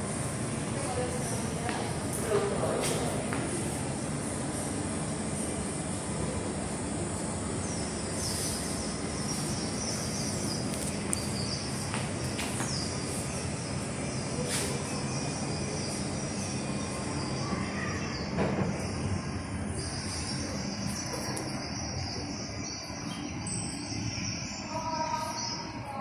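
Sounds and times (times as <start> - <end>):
indoor hum and hiss: 0.0 - 26.0.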